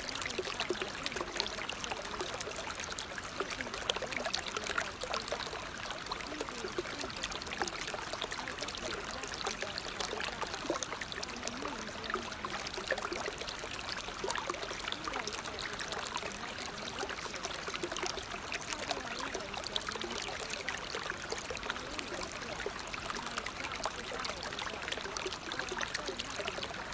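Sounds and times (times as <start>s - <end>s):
running water: 0.0s - 26.9s.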